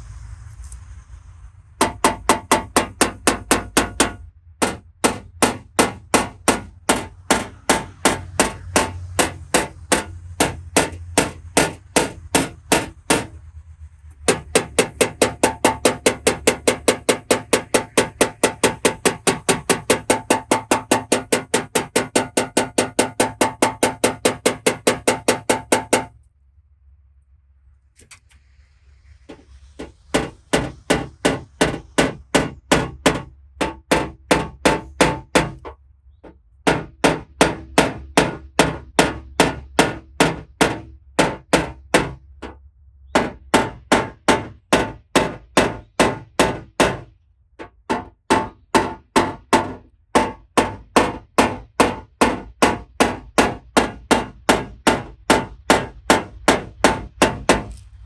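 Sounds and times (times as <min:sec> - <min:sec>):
small hammer tapping sheet metal: 0:01.8 - 0:13.4, 0:14.3 - 0:26.1, 0:29.3 - 0:35.8, 0:36.7 - 0:42.6, 0:43.2 - 0:57.8.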